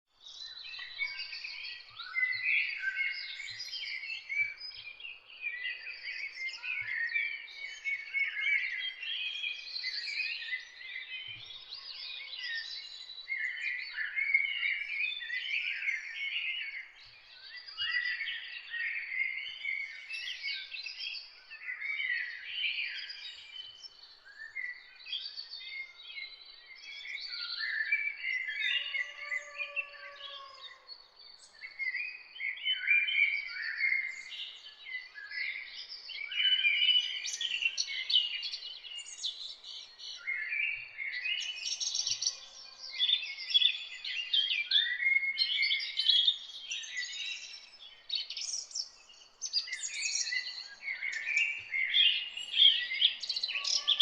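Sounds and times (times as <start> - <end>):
songbirds chirping and trilling: 0.1 - 54.0.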